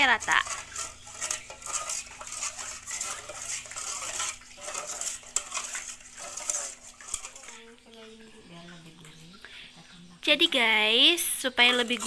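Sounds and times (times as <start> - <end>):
spoon stirring liquid in metal pot: 0.0 - 9.2, 9.8 - 12.0.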